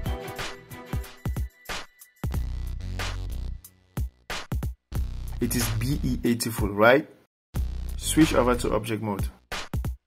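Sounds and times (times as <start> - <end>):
music with kick drum beat: 0.0 - 3.4, 4.0 - 6.8, 7.6 - 10.0.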